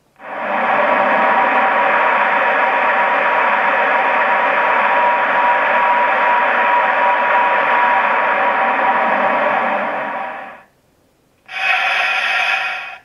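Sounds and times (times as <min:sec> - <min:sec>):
model locomotive fan whir: 0:00.0 - 0:10.7, 0:11.4 - 0:13.0.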